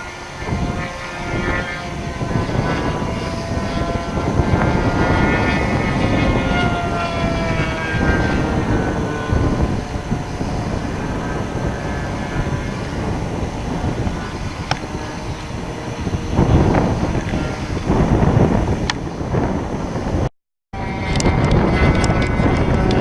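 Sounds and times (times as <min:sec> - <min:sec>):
model airplane engine buzzing: 0:00.0 - 0:23.0
wind noise on microphone: 0:00.0 - 0:23.0.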